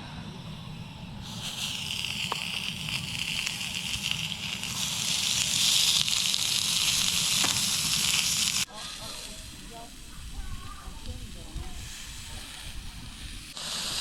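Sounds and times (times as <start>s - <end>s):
pork belly sizzling in a pan: 1.2s - 14.0s.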